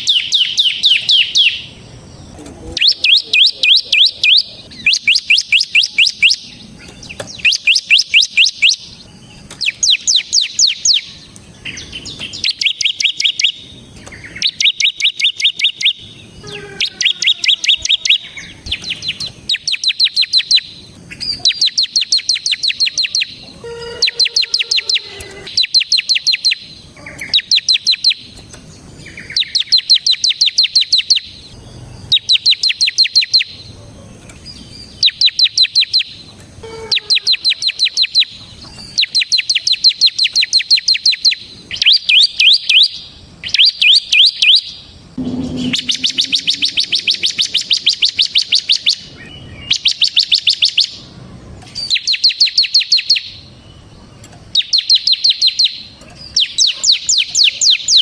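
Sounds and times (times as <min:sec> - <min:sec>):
bird singing trilled phrases: 0:00.0 - 0:33.6, 0:34.4 - 0:51.1, 0:51.8 - 0:58.0.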